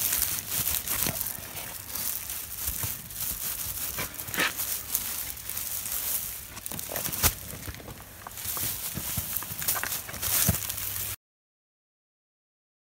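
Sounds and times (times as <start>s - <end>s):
plastic film crinkling: 0.0s - 11.2s.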